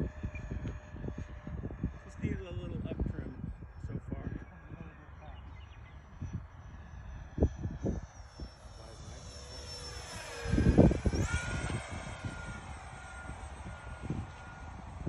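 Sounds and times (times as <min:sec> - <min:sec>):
model jet fan whine flying past: 0:00.0 - 0:15.0.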